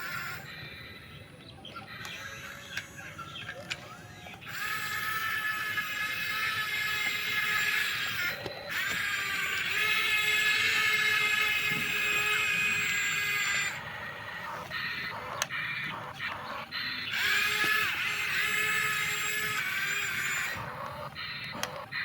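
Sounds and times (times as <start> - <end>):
toy excavator gear motors whining: 0.0 - 22.0.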